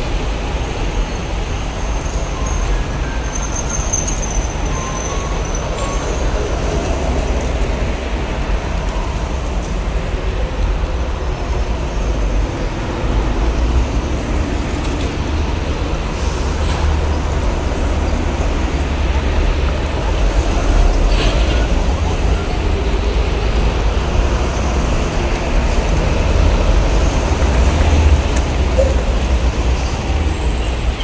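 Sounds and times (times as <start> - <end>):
heavy highway traffic rumble: 0.0 - 31.0.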